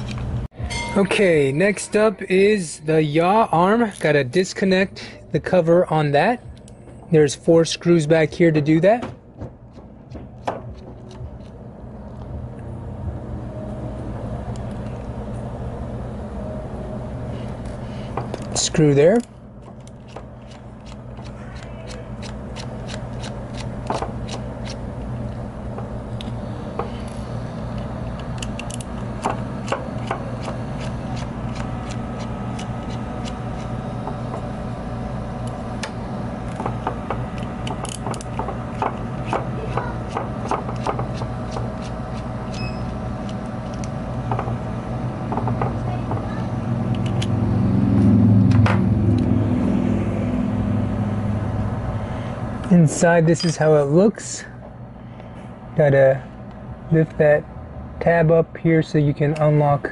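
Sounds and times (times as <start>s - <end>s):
low handling rumble: 0.0s - 40.4s, 41.2s - 54.1s
steady low hum: 0.0s - 59.9s.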